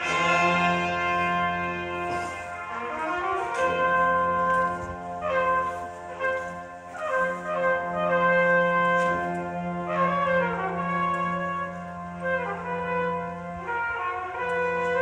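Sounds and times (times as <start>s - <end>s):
brass band playing held chords: 0.0s - 15.0s.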